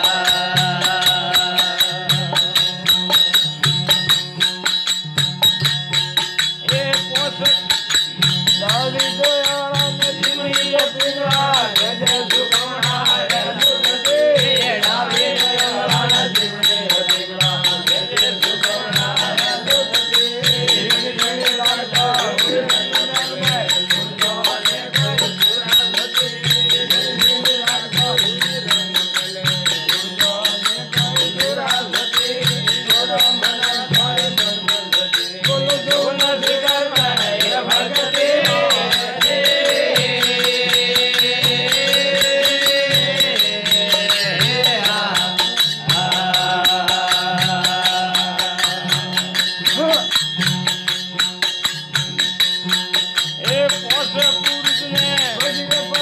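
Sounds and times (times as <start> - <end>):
jingling percussion: 0.0 - 56.0
steady drum beat: 0.0 - 56.0.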